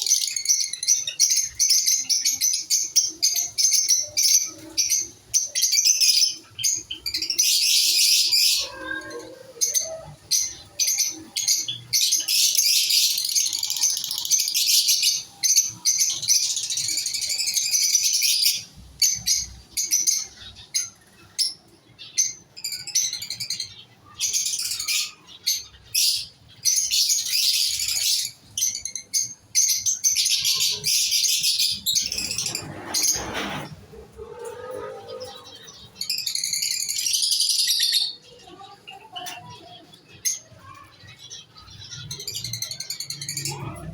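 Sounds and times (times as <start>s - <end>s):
small birds chirping shrilly: 0.0s - 43.9s.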